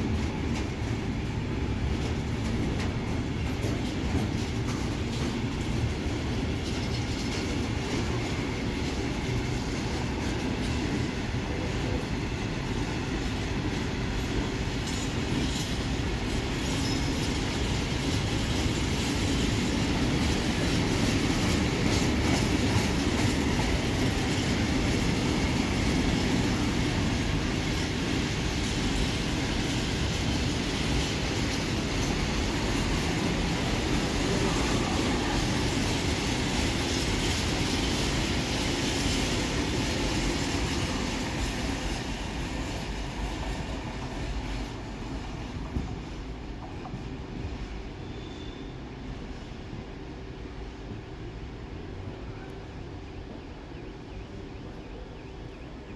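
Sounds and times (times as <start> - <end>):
train wheels running on rails: 0.0 - 55.9.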